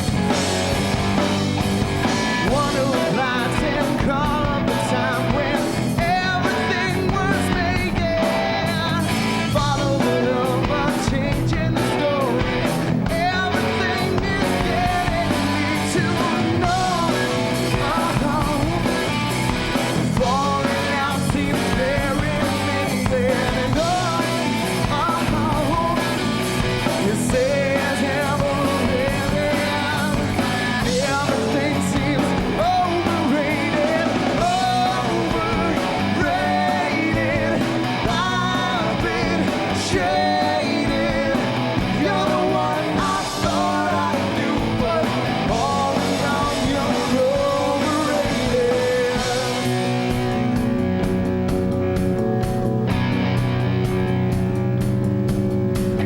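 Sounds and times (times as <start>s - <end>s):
lead vocalist singing: 0.0s - 50.4s
rock band playing live: 0.0s - 56.0s.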